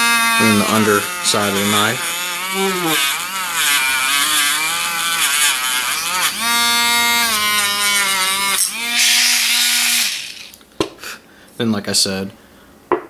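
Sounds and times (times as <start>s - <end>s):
rotary tool buffing metal: 0.0s - 10.6s.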